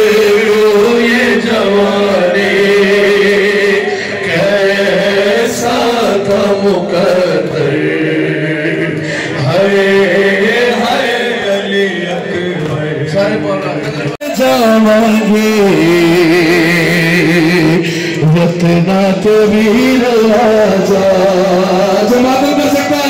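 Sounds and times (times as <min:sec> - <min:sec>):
man chanting a lament into microphone: 0:00.0 - 0:23.0.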